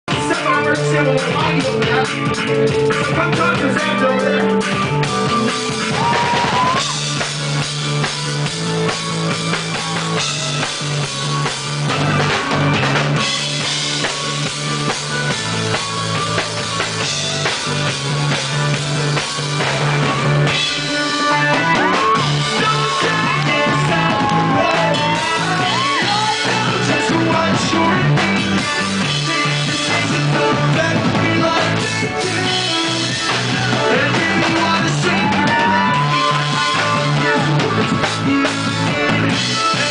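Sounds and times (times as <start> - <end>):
drum kit: 0.1 - 39.9
repeating bass line: 0.1 - 39.9.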